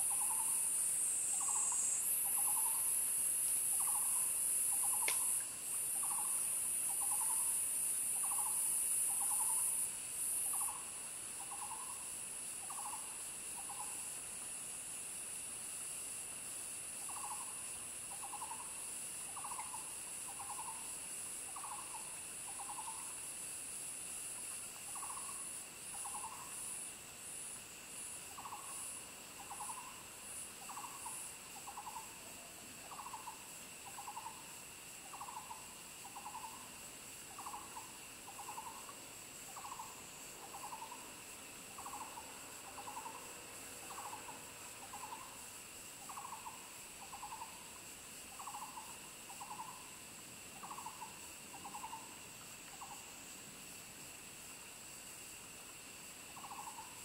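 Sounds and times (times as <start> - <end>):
steady high insect drone: 0.0 - 57.0
very high insect buzz: 0.0 - 57.0.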